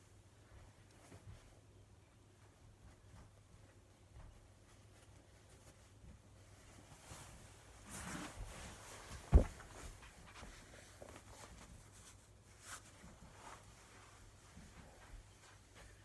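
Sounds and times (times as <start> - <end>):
shuffling movement: 0.1 - 16.0
cloth bandage rustling: 2.4 - 16.0.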